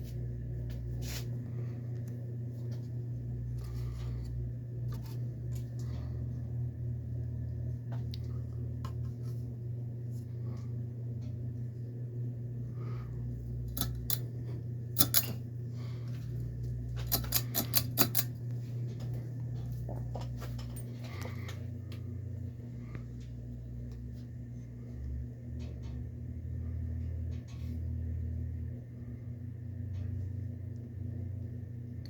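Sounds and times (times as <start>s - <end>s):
ceiling fan motor hum: 0.0s - 32.0s.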